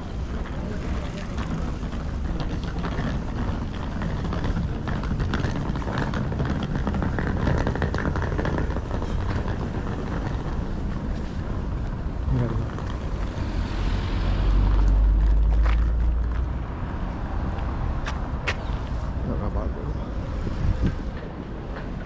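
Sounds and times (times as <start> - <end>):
city traffic hum: 0.0 - 22.0
wind buffeting microphone: 0.0 - 22.0.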